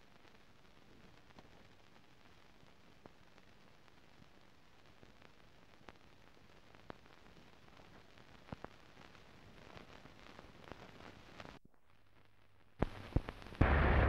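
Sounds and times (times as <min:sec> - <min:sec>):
film surface hiss and crackle: 0:00.0 - 0:14.0.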